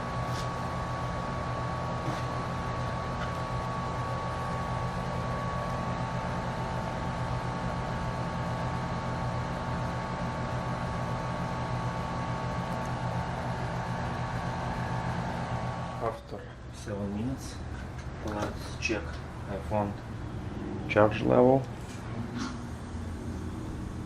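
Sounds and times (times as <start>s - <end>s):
mechanical hum with hiss: 0.0s - 24.0s.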